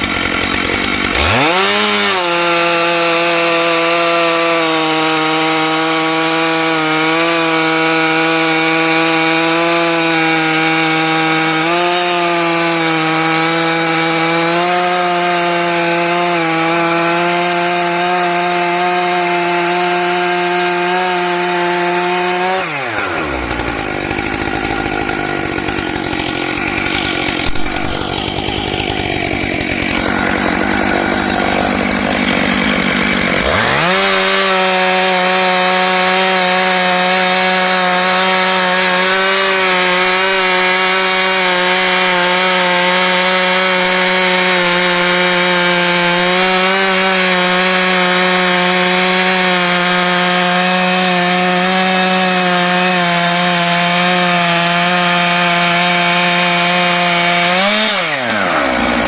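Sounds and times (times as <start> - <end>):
chainsaw ripping a log: 0.0 - 59.0.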